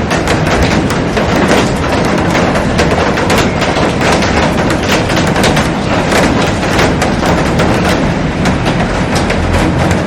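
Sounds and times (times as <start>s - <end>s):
heavy rain: 0.0s - 10.0s
raindrops hitting glass: 0.0s - 10.0s.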